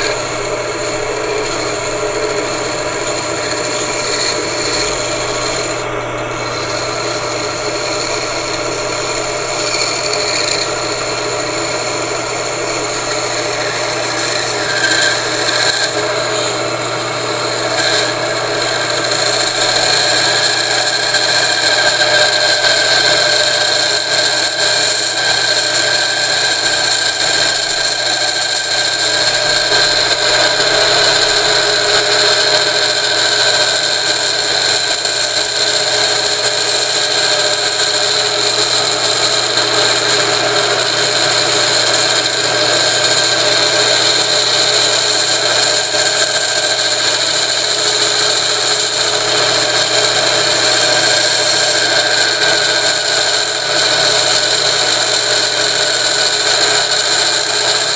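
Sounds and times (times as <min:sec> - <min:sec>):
drill bit scraping metal: 0:00.0 - 0:57.9
motor whine turning rotor: 0:00.0 - 0:57.9.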